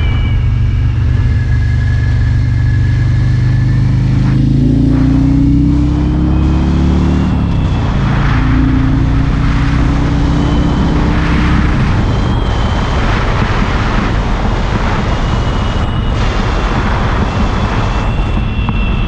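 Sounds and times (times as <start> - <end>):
motorcycle engine running: 0.0 - 19.0
road and wind rush: 0.0 - 19.0.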